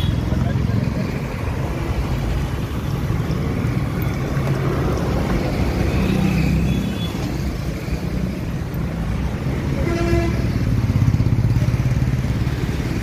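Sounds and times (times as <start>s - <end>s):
motorcycle and car engines: 0.0s - 13.0s
passing road traffic: 0.0s - 13.0s.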